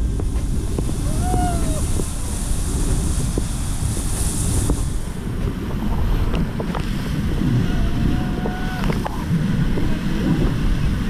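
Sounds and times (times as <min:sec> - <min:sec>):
rushing whitewater: 0:00.0 - 0:11.0
wind buffeting microphone: 0:00.0 - 0:11.0.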